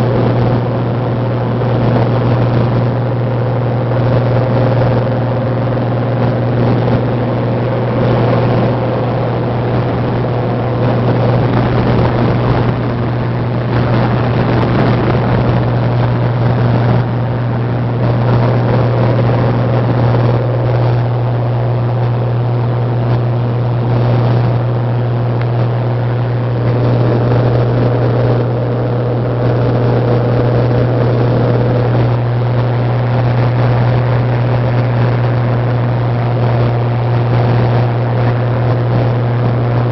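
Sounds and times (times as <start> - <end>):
propeller plane engine droning: 0.0 - 39.9
rush of air noise: 0.0 - 39.9.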